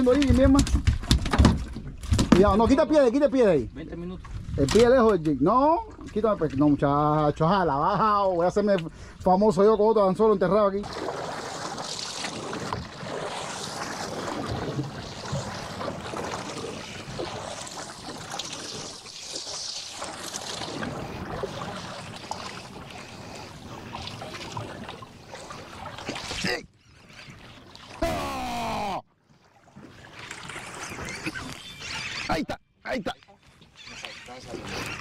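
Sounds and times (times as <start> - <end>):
water lapping against boat hull: 0.0 - 9.6, 10.6 - 28.0, 29.1 - 32.6, 33.2 - 35.0.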